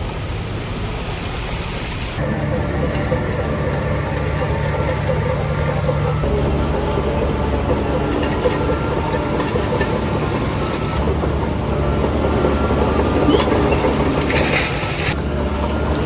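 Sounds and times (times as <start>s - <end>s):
dozer diesel engine running: 0.0s - 16.0s
steel tracks clanking: 0.0s - 16.0s.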